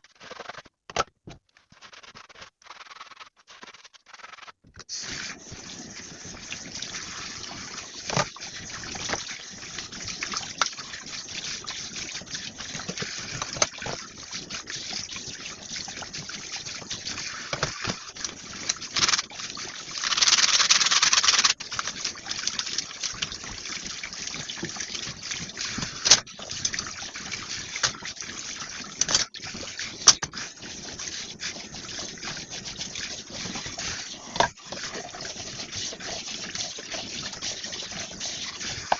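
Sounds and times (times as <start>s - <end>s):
water gushing: 3.6s - 38.9s
tap water running: 4.6s - 38.9s.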